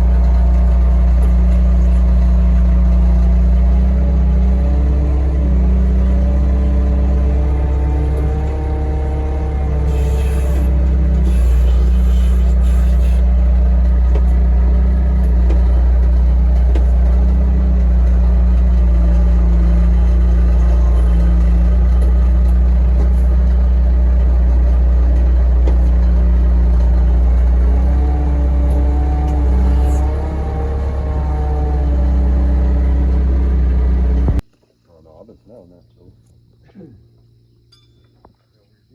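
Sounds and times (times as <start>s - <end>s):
heavy machine engine rumbling: 0.0s - 37.0s.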